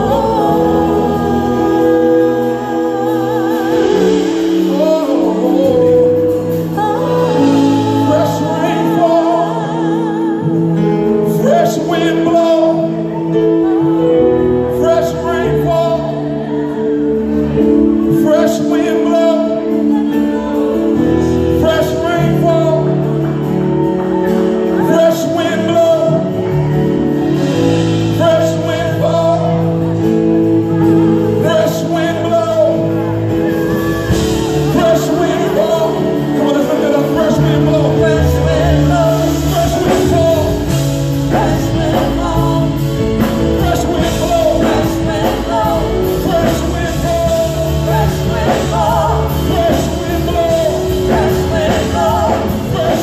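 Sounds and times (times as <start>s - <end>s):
group singing gospel: 0.0s - 53.0s
sustained low instrumental chords: 0.0s - 53.0s.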